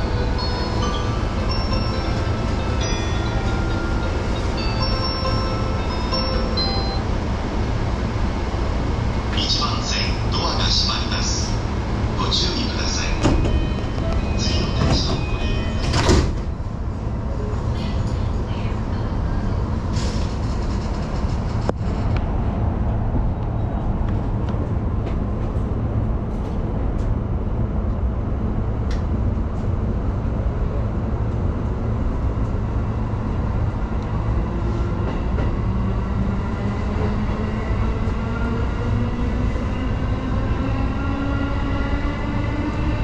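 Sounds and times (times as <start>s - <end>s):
electric train rumbling: 0.0s - 43.0s.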